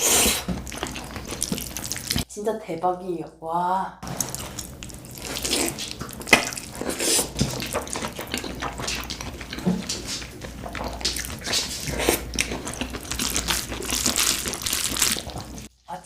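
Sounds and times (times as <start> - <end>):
wet chewing and mouth smacks: 0.2 - 2.3, 4.0 - 15.7.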